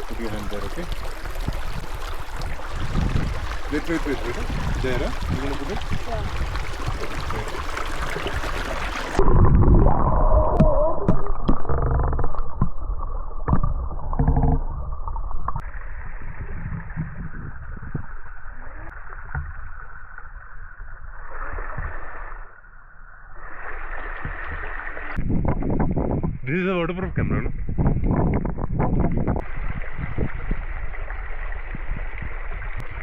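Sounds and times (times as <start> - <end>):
underwater gurgling water: 0.0 - 22.6, 28.0 - 33.0.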